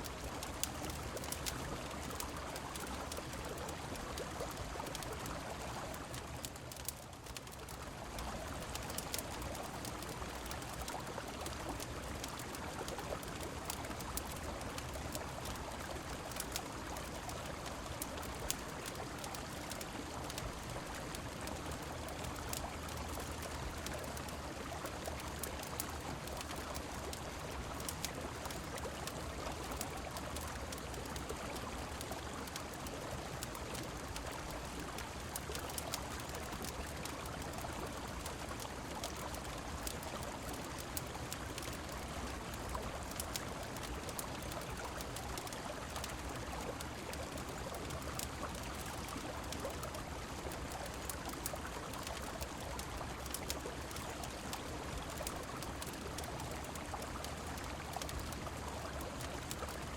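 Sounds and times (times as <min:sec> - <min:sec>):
rain falling: 0:00.0 - 0:59.9
sharp crackles and clicks: 0:00.0 - 0:59.9.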